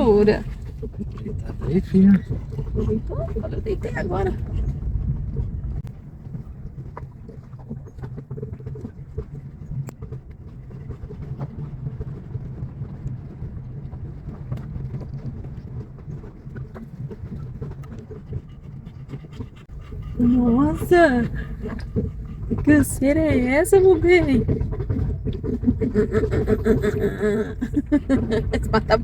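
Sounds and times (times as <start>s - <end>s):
car rumbling on dirt road: 0.0s - 29.0s.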